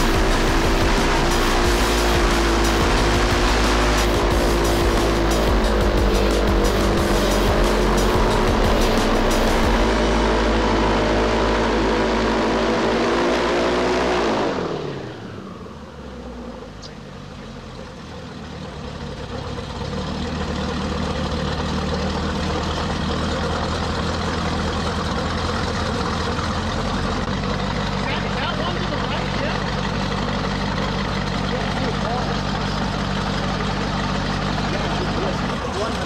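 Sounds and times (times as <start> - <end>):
airboat engine and propeller: 0.0 - 36.0.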